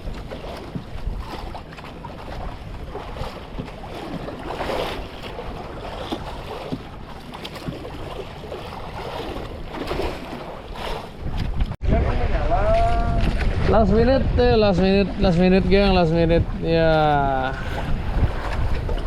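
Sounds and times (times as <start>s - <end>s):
waves splashing against boat: 0.0s - 19.0s
wind buffeting microphone: 0.0s - 19.0s.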